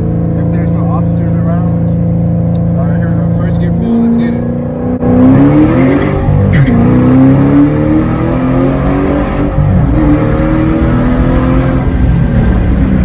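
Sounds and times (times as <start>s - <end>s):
loud car engine accelerating: 0.0s - 13.0s.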